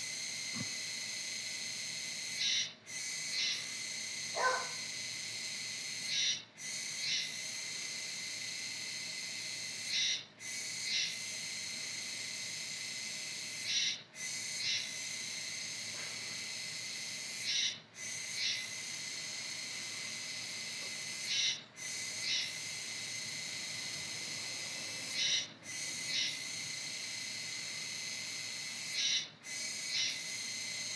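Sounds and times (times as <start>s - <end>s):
cicada buzzing: 0.1s - 30.9s.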